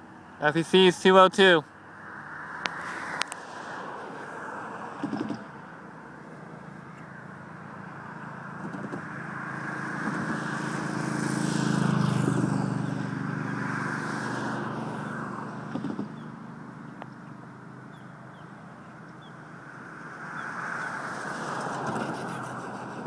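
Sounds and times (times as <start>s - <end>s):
vehicle passing by: 0.5s - 23.0s.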